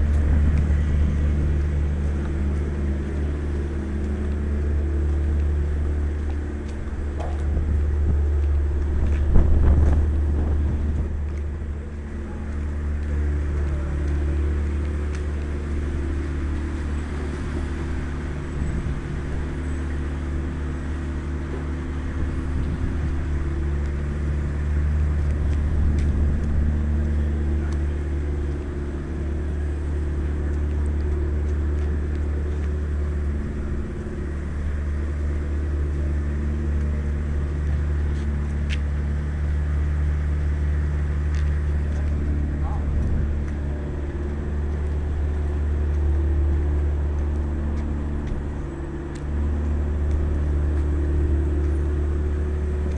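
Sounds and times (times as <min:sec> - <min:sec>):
engine droning steadily: 0:00.0 - 0:52.9.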